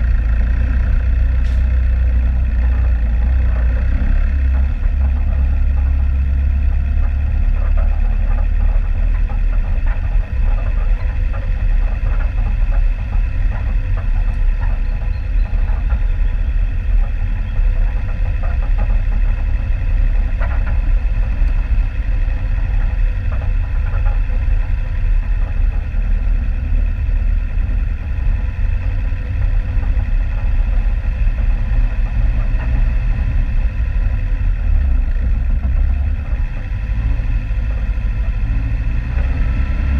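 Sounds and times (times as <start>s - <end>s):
knocks and rattles from ground: 0.0s - 39.6s
vehicle engine running low revs: 0.0s - 39.9s.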